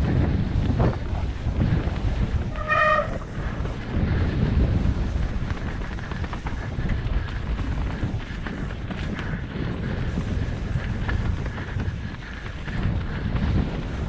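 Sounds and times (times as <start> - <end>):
bike rattling: 0.0 - 14.0
bike tyres rumbling on dirt: 0.0 - 14.0
wind on microphone: 0.0 - 14.0.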